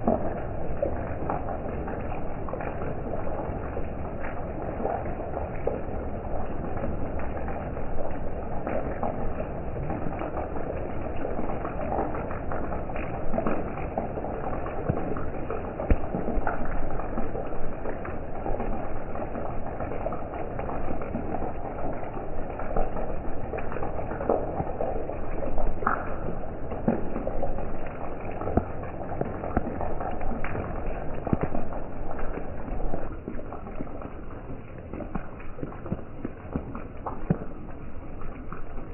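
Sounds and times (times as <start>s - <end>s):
raindrops ticking on surfaces: 0.0s - 38.9s
steady rain hiss: 0.0s - 38.9s.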